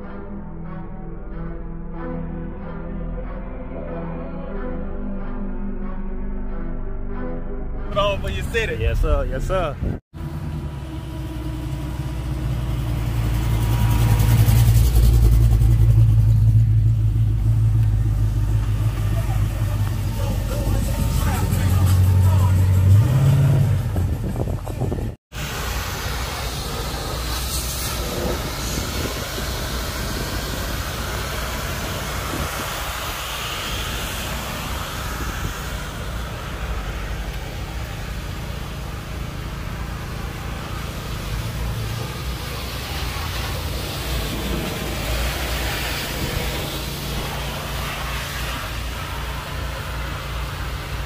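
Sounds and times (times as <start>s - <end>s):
vehicle engines running: 7.9s - 51.0s.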